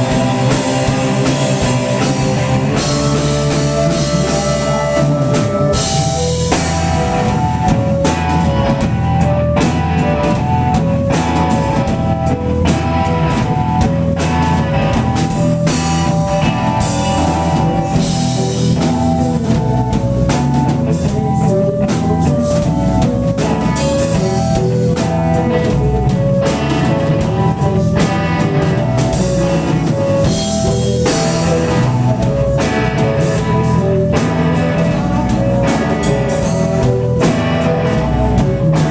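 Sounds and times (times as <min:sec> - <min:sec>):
drum kit steady beat: 0:00.0 - 0:38.9
live rock band playing: 0:00.0 - 0:38.9
repeating riff of stepped notes: 0:00.0 - 0:38.9.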